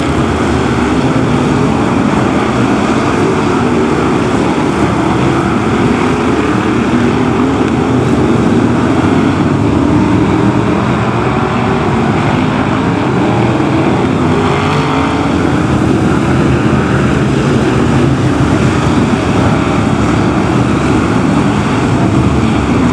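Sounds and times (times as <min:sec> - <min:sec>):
race car engines roaring: 0:00.0 - 0:22.9.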